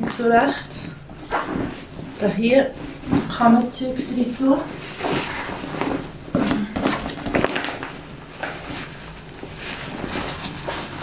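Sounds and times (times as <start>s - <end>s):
fabric rustling: 1.0s - 11.0s.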